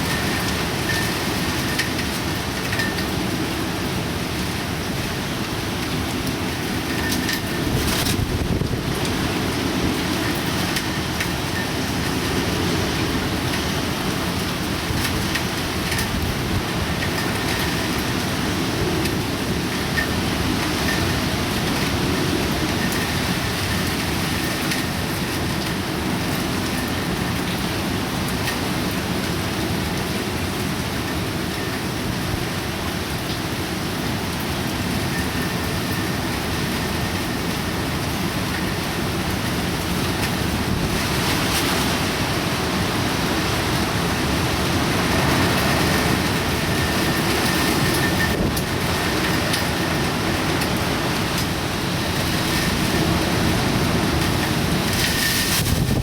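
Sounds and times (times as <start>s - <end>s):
heavy rain: 0.0s - 56.0s
wind: 0.0s - 56.0s.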